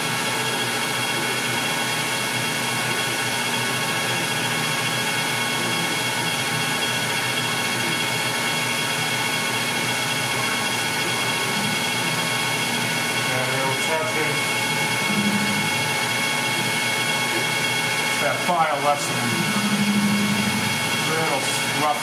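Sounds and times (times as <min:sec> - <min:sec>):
metal lathe whirring: 0:00.0 - 0:22.0.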